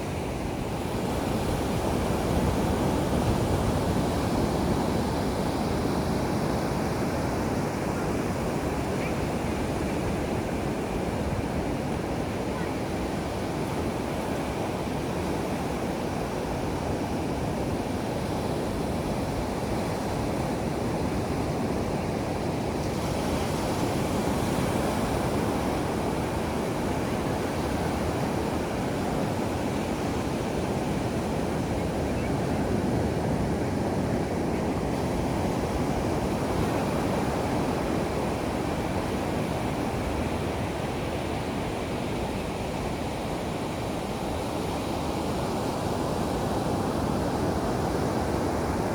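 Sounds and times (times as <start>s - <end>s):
ocean waves breaking on beach: 0.0s - 48.9s.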